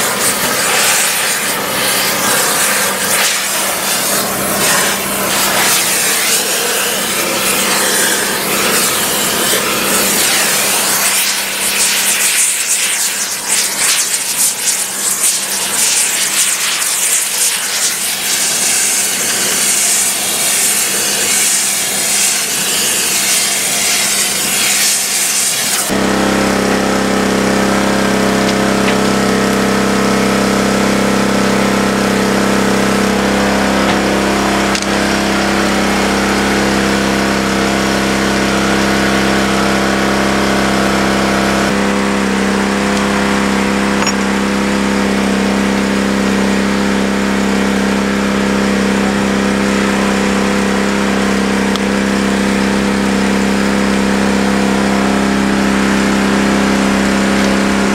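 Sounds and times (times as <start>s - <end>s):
engine running steadily: 0.0s - 57.9s
power tool grinding steel rail: 0.0s - 57.9s.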